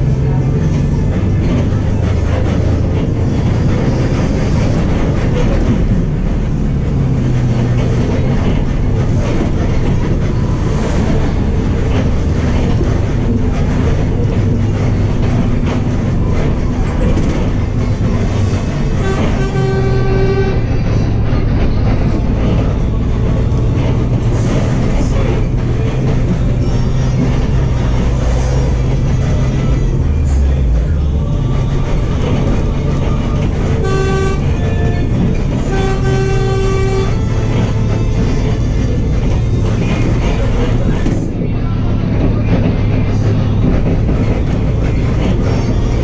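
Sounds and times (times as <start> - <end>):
bus engine running: 0.0 - 46.0
road rumble: 0.0 - 46.0.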